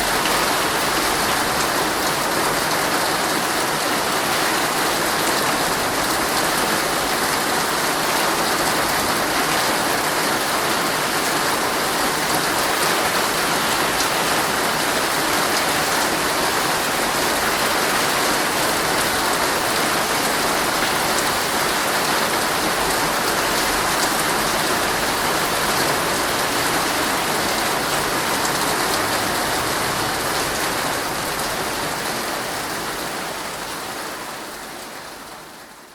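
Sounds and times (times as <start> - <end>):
heavy rain on tent fabric: 0.0 - 35.9.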